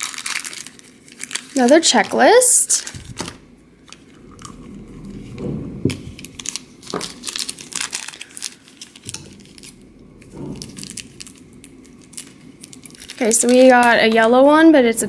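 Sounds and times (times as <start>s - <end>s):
plastic packet crinkling: 0.0s - 5.3s, 5.9s - 14.8s.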